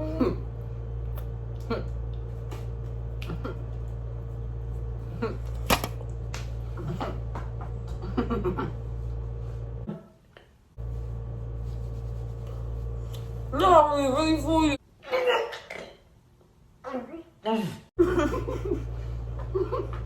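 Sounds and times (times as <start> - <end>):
low electrical hum: 0.0 - 9.9, 10.6 - 14.8, 18.0 - 20.0.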